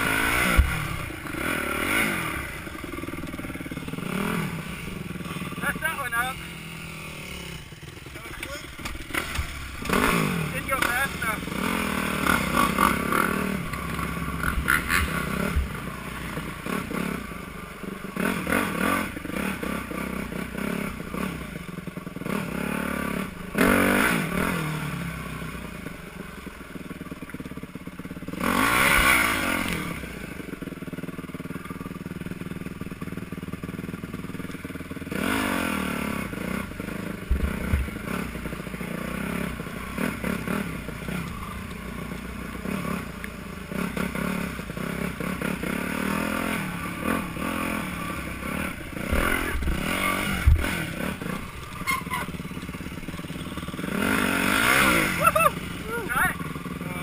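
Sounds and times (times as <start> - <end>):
dirt bike engine revving: 0.0 - 26.9, 27.5 - 57.0.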